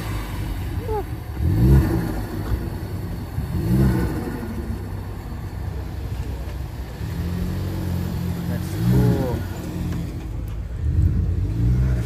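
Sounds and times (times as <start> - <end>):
car engine revving: 0.0 - 12.0
engines idling: 0.0 - 12.0.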